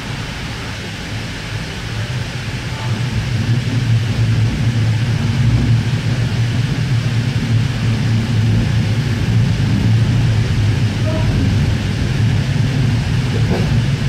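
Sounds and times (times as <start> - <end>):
train interior hum: 0.0 - 14.0
wheel and rail noise: 0.0 - 14.0.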